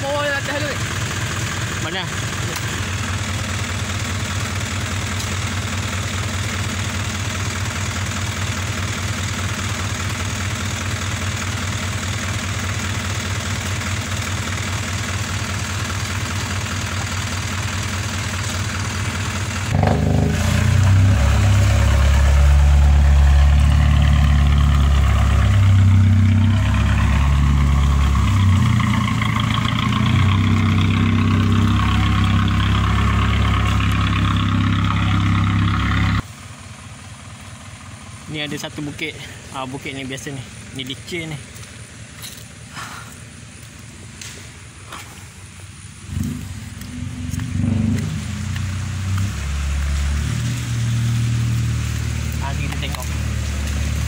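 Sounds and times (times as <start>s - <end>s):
lorry diesel engine running: 0.0s - 54.0s.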